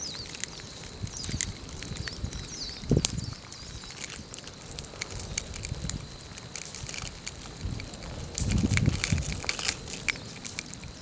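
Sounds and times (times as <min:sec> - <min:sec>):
lava crackling and popping: 0:00.0 - 0:11.0.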